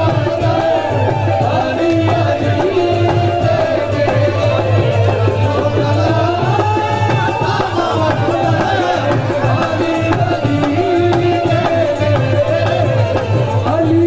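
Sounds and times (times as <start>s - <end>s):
hand drum rhythm: 0.0s - 14.0s.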